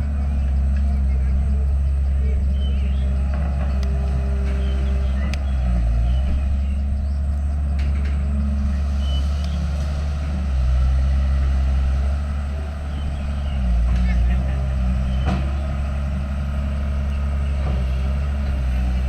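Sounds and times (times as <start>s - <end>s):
diesel engine rumbling under load: 0.0s - 19.0s.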